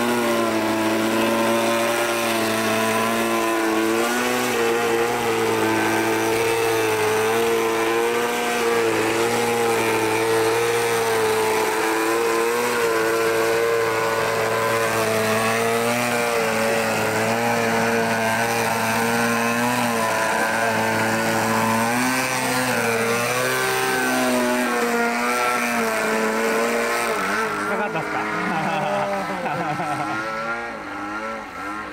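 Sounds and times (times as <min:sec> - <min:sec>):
model airplane engine running: 0:00.0 - 0:31.9.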